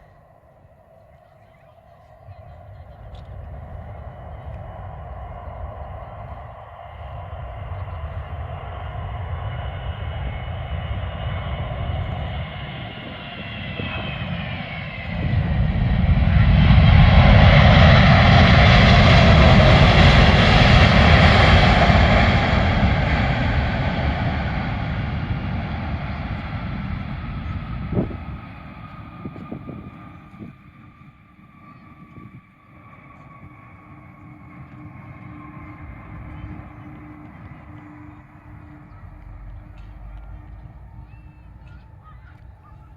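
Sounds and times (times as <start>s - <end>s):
jet engines whining and roaring: 0.0s - 42.9s.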